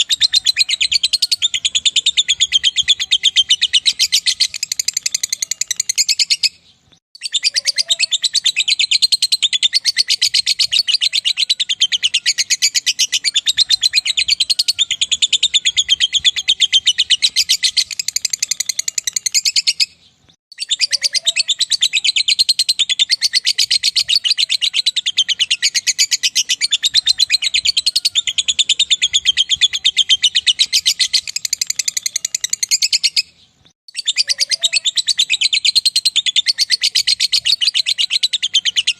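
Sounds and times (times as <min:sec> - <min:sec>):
lovebird chattering trill: 0:00.0 - 0:06.6, 0:07.2 - 0:38.9.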